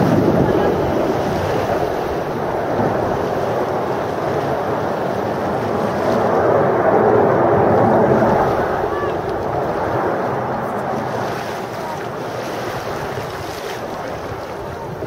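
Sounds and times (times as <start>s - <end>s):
jet engines roaring past: 0.0s - 15.0s.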